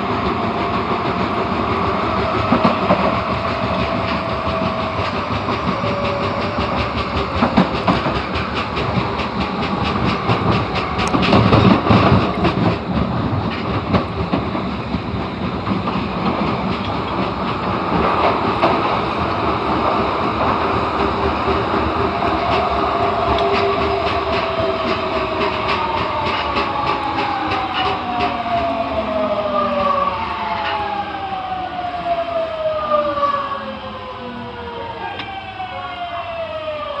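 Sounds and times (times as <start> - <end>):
subway train rolling underground: 0.0 - 37.0.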